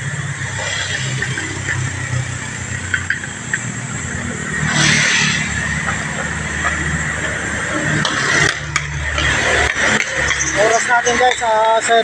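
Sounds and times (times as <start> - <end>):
rush of noise: 0.0 - 10.6
vehicle engine running: 0.0 - 12.0.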